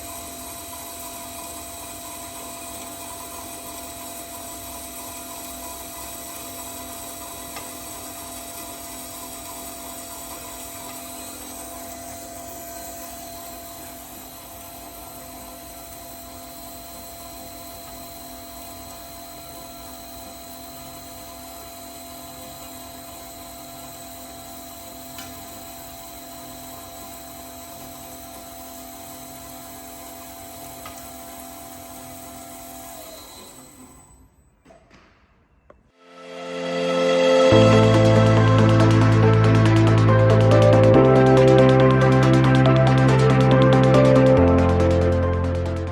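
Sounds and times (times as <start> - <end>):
band saw whining: 0.0 - 34.3, 36.0 - 45.9.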